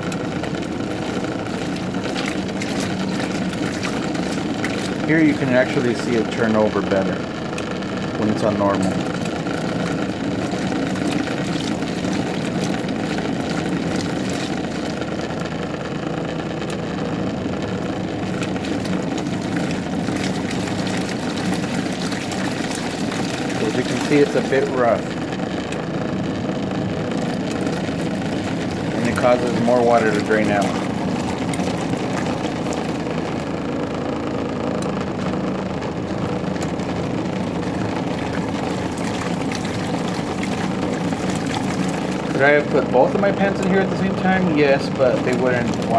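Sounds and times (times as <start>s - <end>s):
washing machine motor humming: 0.0s - 45.9s
water sloshing: 0.0s - 45.9s.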